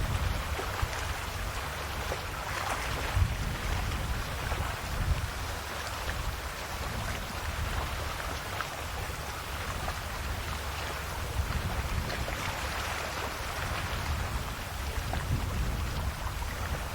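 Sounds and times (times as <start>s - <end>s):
small waves lapping at shore: 0.0s - 16.9s.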